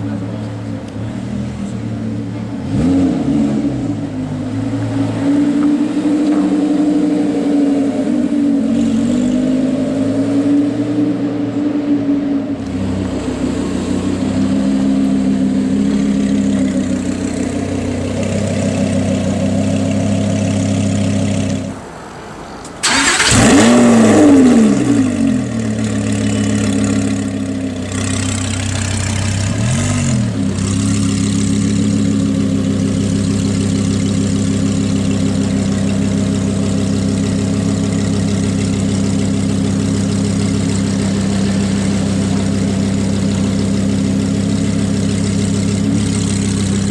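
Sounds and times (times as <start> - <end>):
engine revving: 0.0 - 21.8, 22.8 - 46.9
car engine idling: 0.0 - 46.9.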